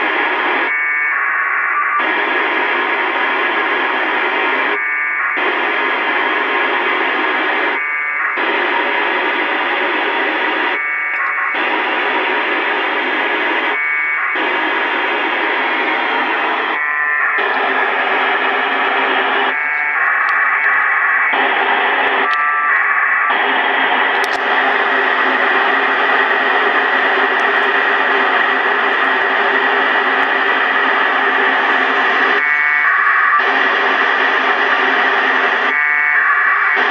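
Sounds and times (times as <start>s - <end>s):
radio band hiss: 1.4s - 36.9s.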